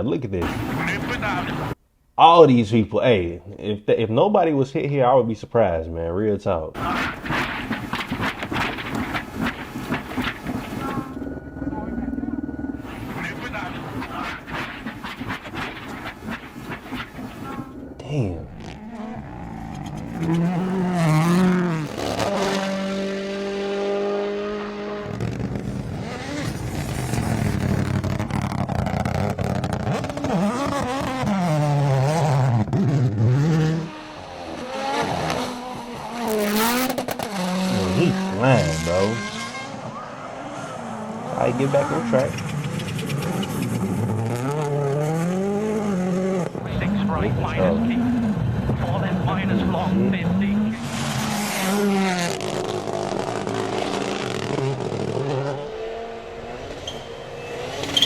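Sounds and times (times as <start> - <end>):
rally car engine revving: 0.4 - 1.8, 6.8 - 58.0.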